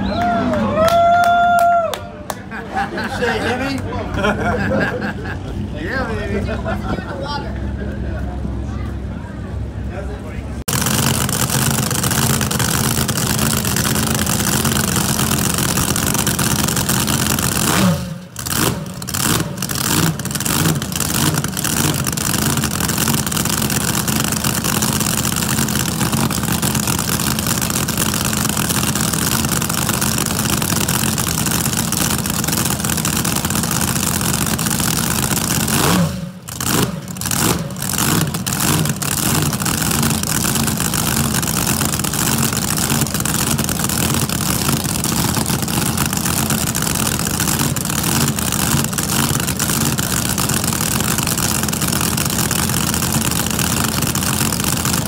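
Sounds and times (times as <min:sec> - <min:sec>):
boat engine idling and revving: 0:10.5 - 0:55.0.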